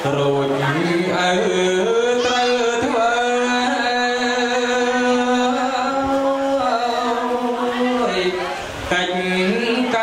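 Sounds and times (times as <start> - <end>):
man chanting into a microphone: 0.0 - 10.0.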